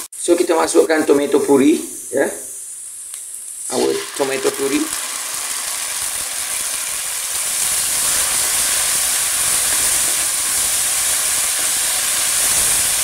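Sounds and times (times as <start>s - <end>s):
sauce sizzling in hot oil: 0.1s - 13.0s.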